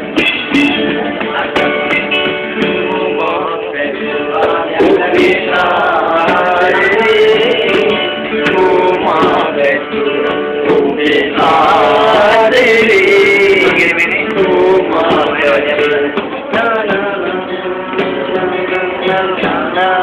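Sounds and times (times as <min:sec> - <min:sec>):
men singing: 0:00.0 - 0:20.0
strummed guitar: 0:00.0 - 0:20.0.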